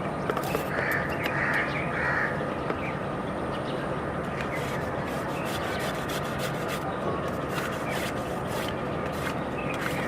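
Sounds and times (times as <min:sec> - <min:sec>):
harsh bird calls: 0:00.0 - 0:10.0
steady background hiss: 0:00.0 - 0:10.0.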